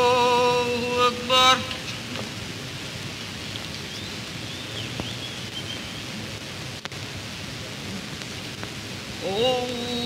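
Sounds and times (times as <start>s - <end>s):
film soundtrack hiss and crackle: 0.0s - 10.0s.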